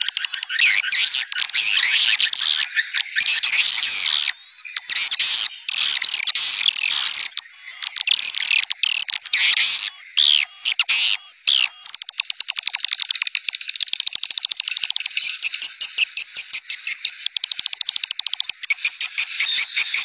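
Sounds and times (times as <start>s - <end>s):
swiftlets twittering: 0.0s - 20.0s.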